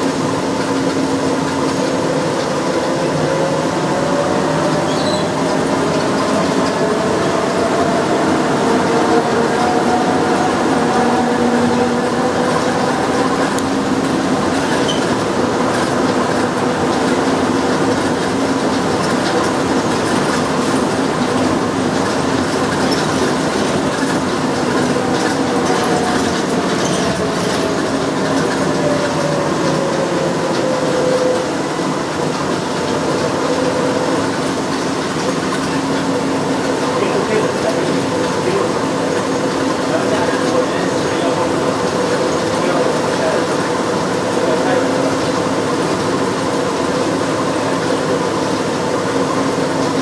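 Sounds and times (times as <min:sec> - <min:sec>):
train running gear rumble: 0:00.0 - 0:50.0.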